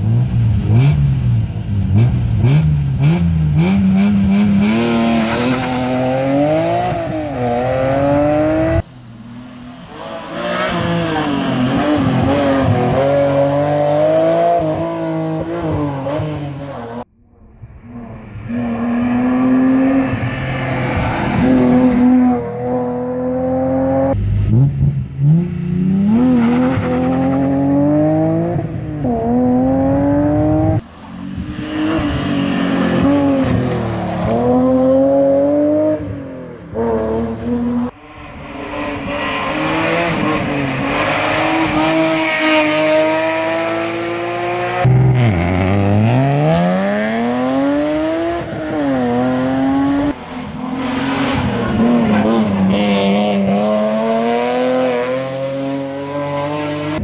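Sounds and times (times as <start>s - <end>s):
rally car engines revving hard: 0.0s - 8.8s, 9.8s - 17.1s, 18.4s - 37.9s, 38.6s - 57.0s.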